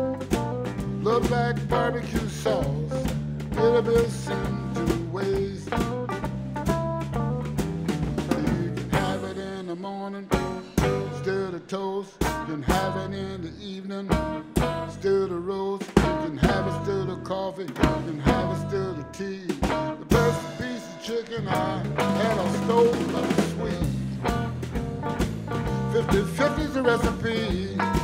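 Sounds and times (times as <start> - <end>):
drum kit steady beat: 0.0 - 9.6, 10.3 - 11.3, 12.2 - 13.0, 14.1 - 15.0, 15.8 - 17.0, 17.6 - 28.0
electric bass: 0.0 - 9.6, 10.3 - 11.5, 12.2 - 28.0
guitar lead with bending notes: 0.0 - 9.6, 10.3 - 11.5, 14.1 - 28.0.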